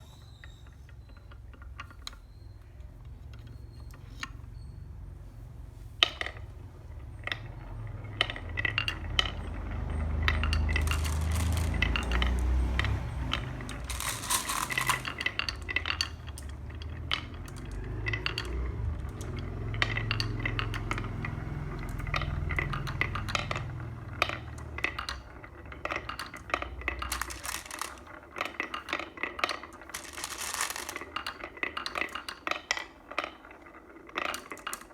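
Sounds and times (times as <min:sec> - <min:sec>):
marbles clacking: 0:06.0 - 0:34.9
marbles rolling on wooden track: 0:06.0 - 0:34.9.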